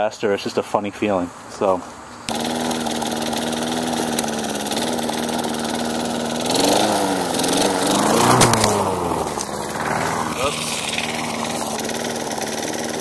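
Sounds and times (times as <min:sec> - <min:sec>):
lawn mower engine revving: 0:02.3 - 0:13.0.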